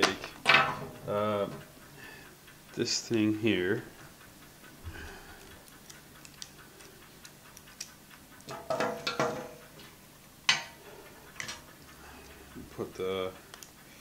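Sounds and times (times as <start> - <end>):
clockwork ticking: 0.0 - 14.0.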